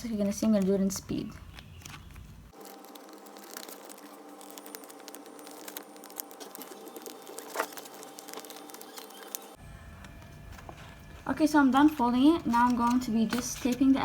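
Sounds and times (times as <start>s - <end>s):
paper crinkling and crackling: 0.0s - 9.6s, 10.2s - 14.0s
faint hum: 0.0s - 14.0s.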